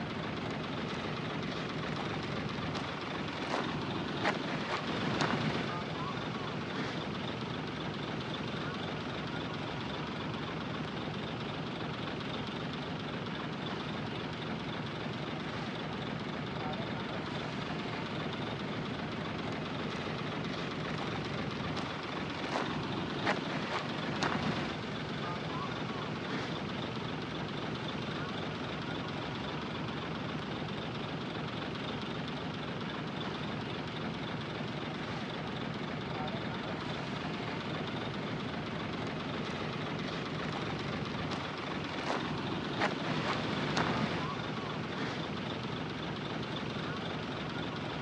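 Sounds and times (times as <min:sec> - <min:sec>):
heavy diesel machinery running: 0:00.0 - 0:48.0.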